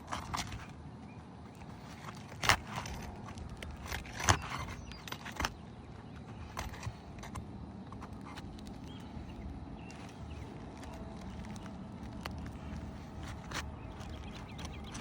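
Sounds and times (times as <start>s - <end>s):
tool clicking and scraping shingles: 1.5s - 15.0s.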